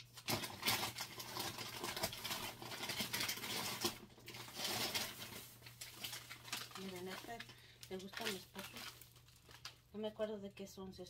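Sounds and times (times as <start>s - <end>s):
packages rustling and scraping: 0.0s - 9.8s.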